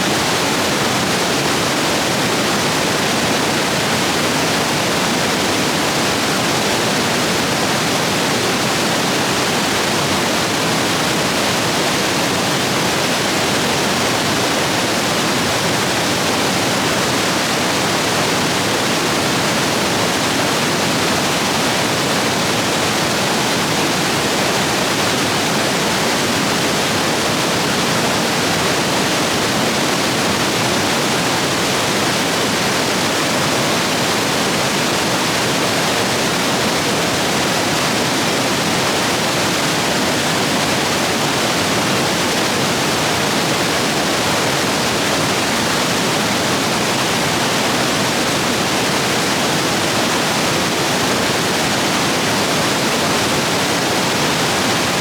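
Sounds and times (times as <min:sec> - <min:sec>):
stream rapids rushing over rocks: 0:00.0 - 0:55.0.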